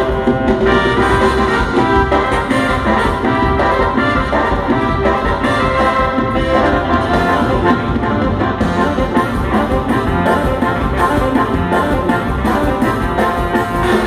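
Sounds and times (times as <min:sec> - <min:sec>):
brass band playing: 0:00.0 - 0:14.0
steady drum beat: 0:00.0 - 0:14.0.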